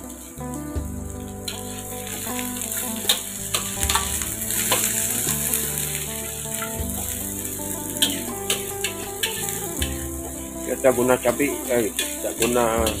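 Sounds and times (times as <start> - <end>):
aromatics sizzling in hot oil: 0.0 - 13.0
metal spatula scraping wok: 0.0 - 13.0.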